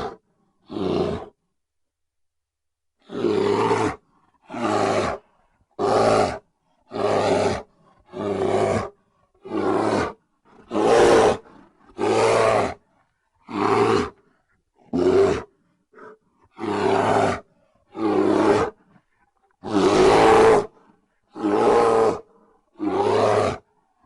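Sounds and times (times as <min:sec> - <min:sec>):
bear roaring: 0:00.0 - 0:01.4, 0:03.0 - 0:12.8, 0:13.4 - 0:14.2, 0:14.8 - 0:19.0, 0:19.6 - 0:23.7.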